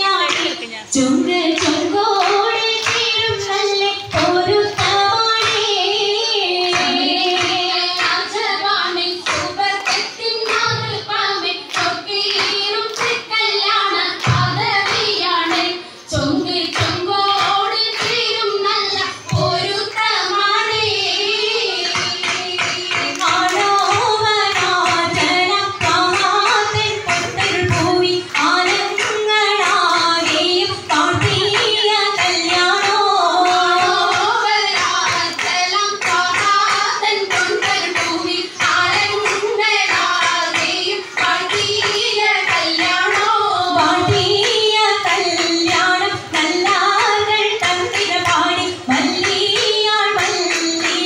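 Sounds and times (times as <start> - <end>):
rhythmic hand-clapping: 0.0 - 51.0.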